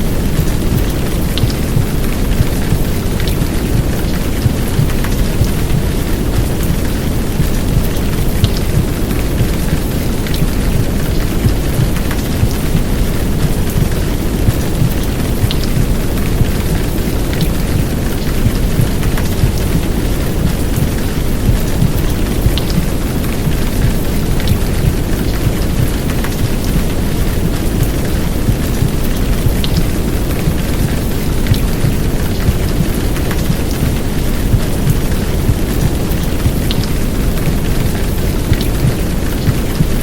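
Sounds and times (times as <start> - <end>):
deep white noise: 0.0 - 40.0
heavy rain: 0.0 - 40.0
sharp raindrop ticks: 0.0 - 40.0.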